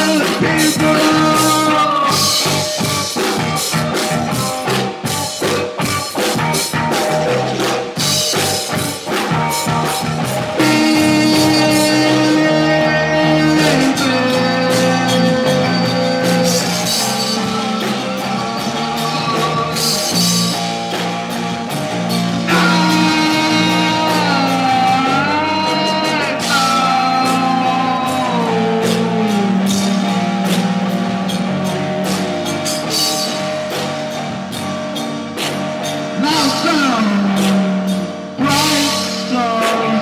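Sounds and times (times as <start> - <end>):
bending lead guitar line: 0.0 - 40.0
rock band playing: 0.0 - 40.0.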